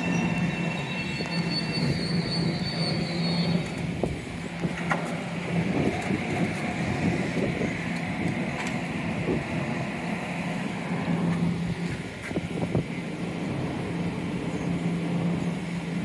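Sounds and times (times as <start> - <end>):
train equipment low hum: 0.0 - 16.0.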